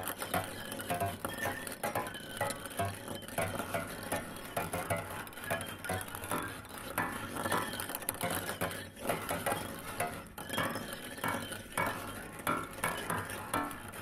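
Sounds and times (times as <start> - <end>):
small hard objects clinking: 0.0 - 14.0.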